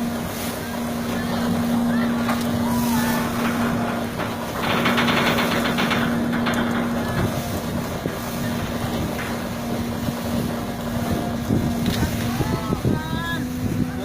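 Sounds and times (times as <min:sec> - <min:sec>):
boat engine humming: 0:00.0 - 0:14.0
water rushing surge: 0:00.0 - 0:14.0
wind: 0:00.0 - 0:14.0.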